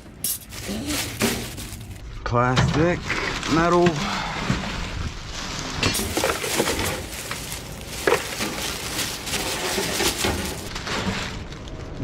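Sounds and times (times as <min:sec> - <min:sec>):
rustling: 0:00.0 - 0:02.0, 0:03.0 - 0:12.0
metal and plastic clattering: 0:00.0 - 0:04.9, 0:05.7 - 0:11.5.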